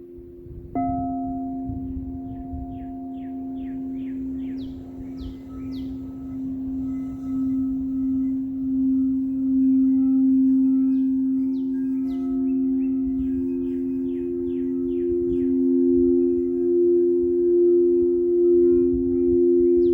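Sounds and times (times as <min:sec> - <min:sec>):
singing bowls ringing: 0:00.0 - 0:19.9
birds chirping: 0:00.8 - 0:19.9.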